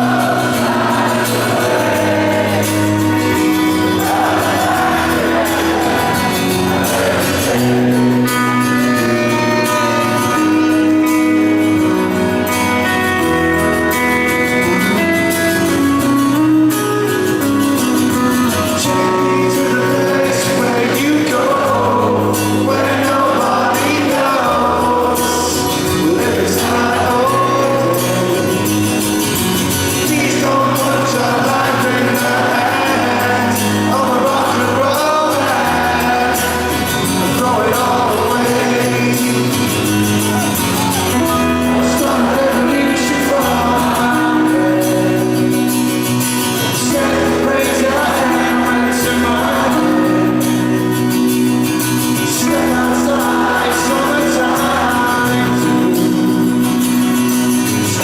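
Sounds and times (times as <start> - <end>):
crowd singing along: 0.0 - 58.0
live rock band playing: 0.0 - 58.0.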